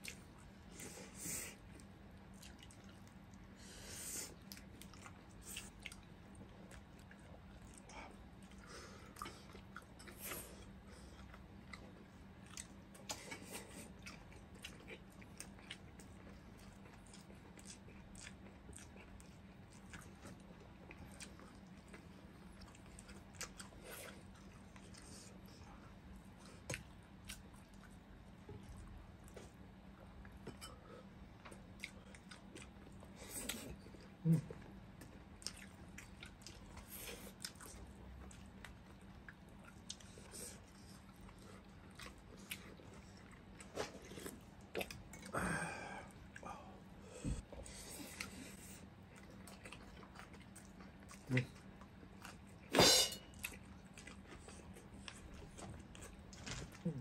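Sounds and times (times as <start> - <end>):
faint low hum: 0.0 - 57.0
people chewing and biting: 0.0 - 57.0.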